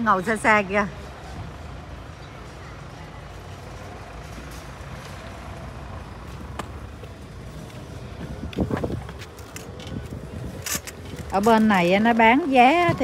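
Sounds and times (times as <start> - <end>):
shopping trolley rolling on paving: 0.0 - 13.0.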